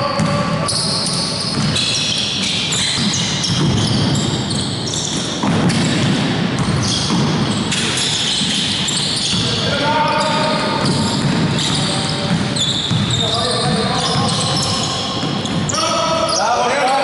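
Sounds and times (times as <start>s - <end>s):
basketball bouncing: 0.0s - 15.7s
sneakers squeaking: 0.0s - 17.0s.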